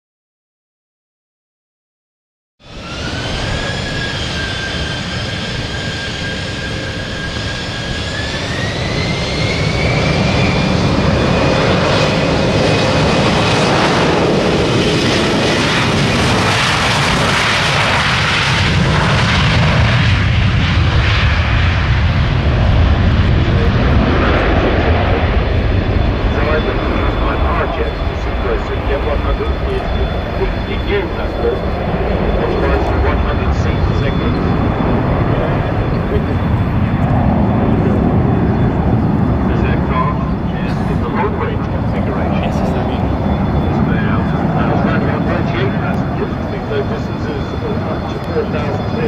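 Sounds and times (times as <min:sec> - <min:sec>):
jet engines spooling up: 0:02.6 - 0:49.0.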